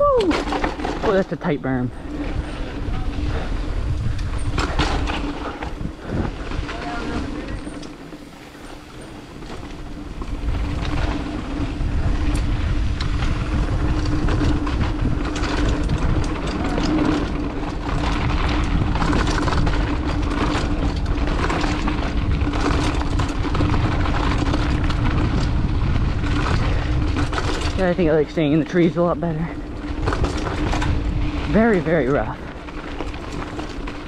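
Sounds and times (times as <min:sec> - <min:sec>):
bike clattering over bumps: 0:00.0 - 0:34.0.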